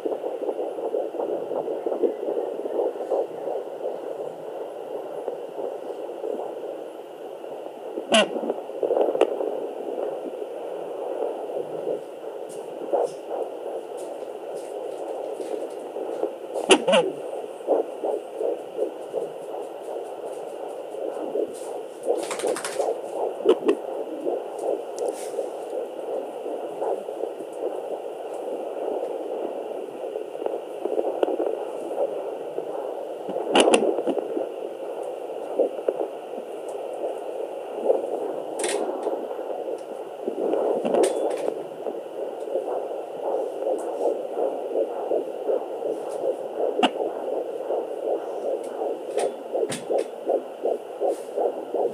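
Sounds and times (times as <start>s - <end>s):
doppler heartbeat whooshing: 0.0s - 51.9s
scratchy bursts: 0.0s - 51.9s.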